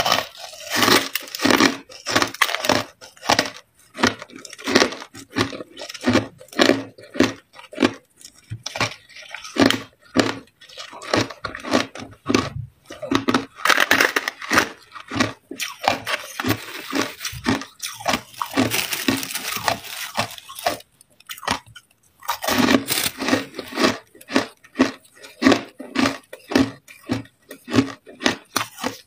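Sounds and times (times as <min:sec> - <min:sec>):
chewing crunchy ice: 0:00.0 - 0:29.0.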